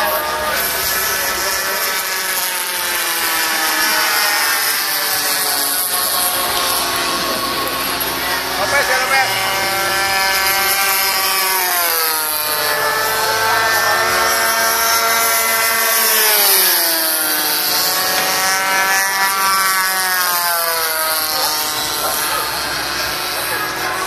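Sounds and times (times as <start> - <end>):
model airplane engines buzzing: 0.0 - 24.0.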